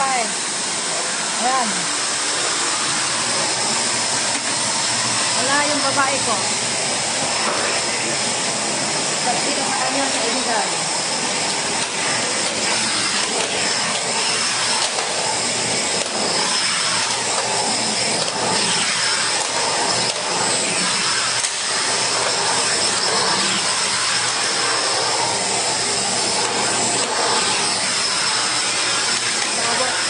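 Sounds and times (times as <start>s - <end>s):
steam cleaner hissing: 0.0s - 30.0s.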